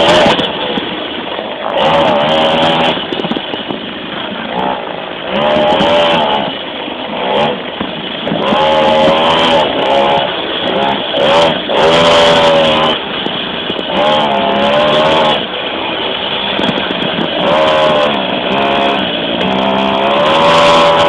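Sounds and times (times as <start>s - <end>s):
small two-stroke engine revving: 0.0s - 21.0s
wind buffeting microphone: 0.0s - 21.0s.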